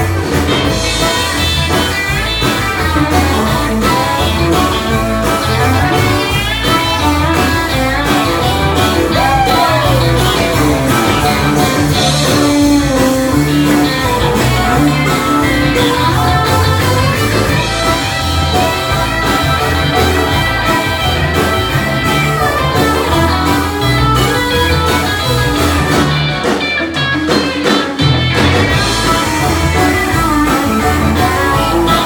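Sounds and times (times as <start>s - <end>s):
country band playing: 0.0s - 32.0s
electric guitar: 0.0s - 32.0s.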